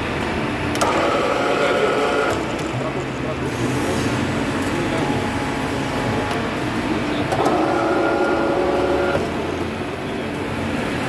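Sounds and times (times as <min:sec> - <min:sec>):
pitched machine hum: 0:00.0 - 0:10.5
stamping machine running: 0:00.0 - 0:11.0.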